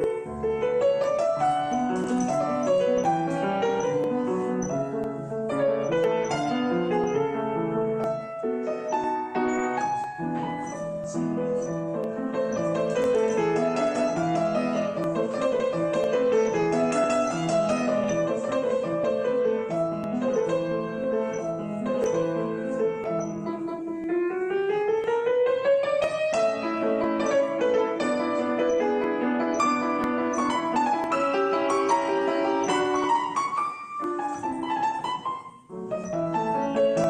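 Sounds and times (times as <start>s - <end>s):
grand piano playing: 0.0s - 37.0s.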